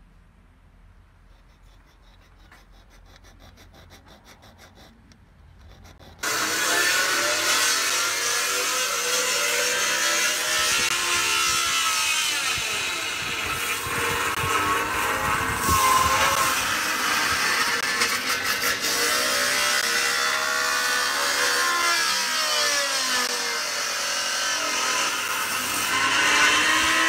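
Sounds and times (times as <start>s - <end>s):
hand tool rasping strokes: 1.2s - 27.0s.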